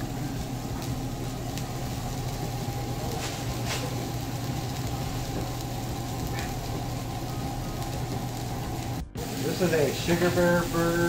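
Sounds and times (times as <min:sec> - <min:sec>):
even hiss: 0:00.0 - 0:11.0
kitchen machine hum: 0:00.0 - 0:11.0.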